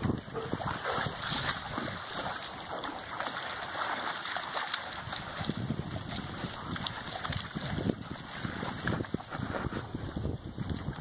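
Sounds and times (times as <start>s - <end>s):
dogs splashing through water: 0.0s - 11.0s
rushing river water: 0.0s - 11.0s.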